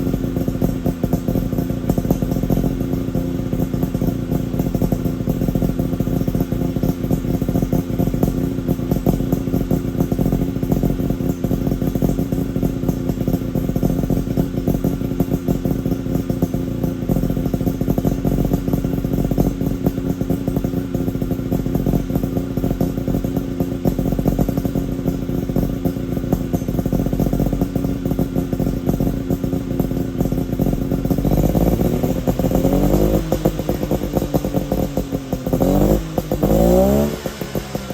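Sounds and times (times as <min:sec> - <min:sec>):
two-stroke engine idling: 0:00.0 - 0:37.9.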